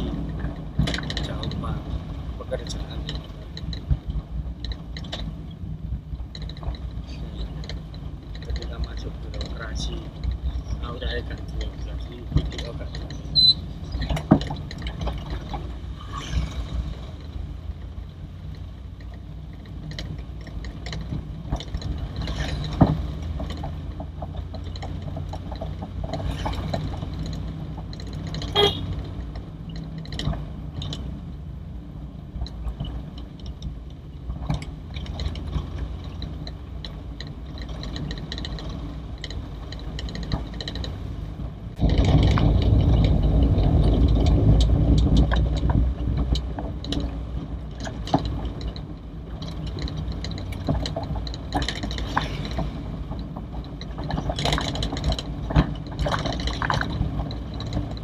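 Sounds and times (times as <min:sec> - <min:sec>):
car engine and road hum: 0:00.0 - 0:58.0
light knocks and rattles: 0:00.0 - 0:58.0.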